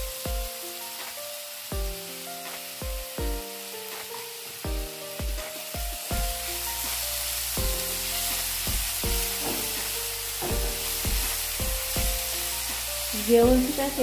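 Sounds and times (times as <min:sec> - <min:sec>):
fruit sizzling in a pan: 0:00.0 - 0:14.0.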